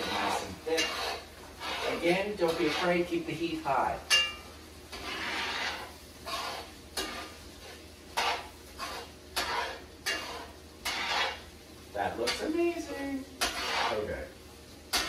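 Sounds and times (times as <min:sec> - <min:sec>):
low sizzle: 0:00.0 - 0:15.0
utensil scraping a skillet: 0:00.0 - 0:15.0.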